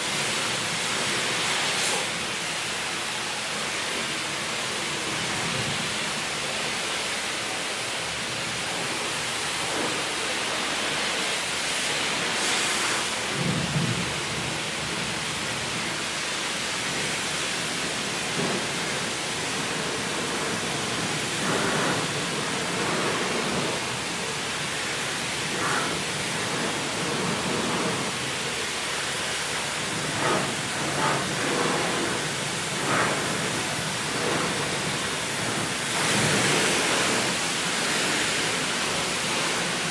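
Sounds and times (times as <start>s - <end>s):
water spray hissing on car: 0.0s - 39.9s.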